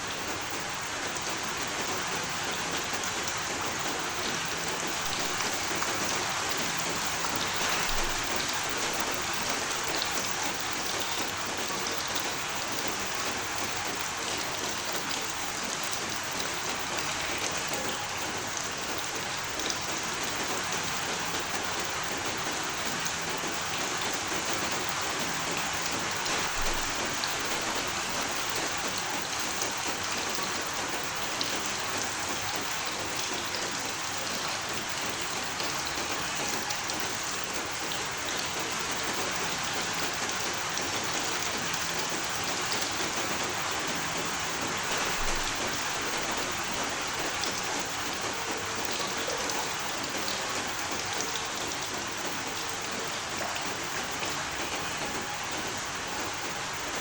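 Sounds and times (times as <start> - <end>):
steady rain hiss: 0.0 - 57.0
raindrop ticks: 0.1 - 57.0.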